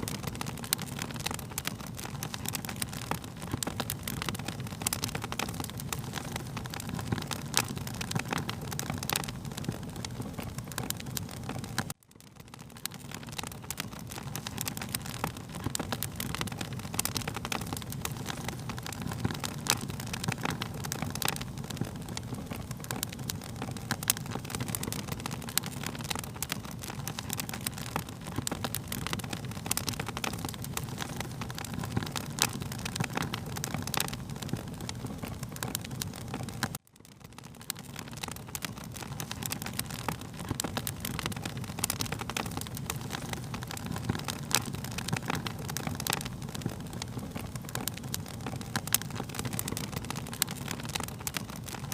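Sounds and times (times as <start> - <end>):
fire crackling and popping: 0.0 - 51.9.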